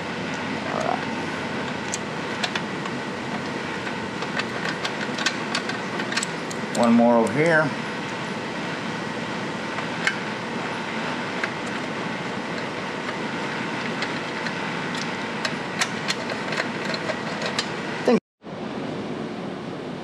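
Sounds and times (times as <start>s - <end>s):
fan whirring: 0.0s - 20.0s.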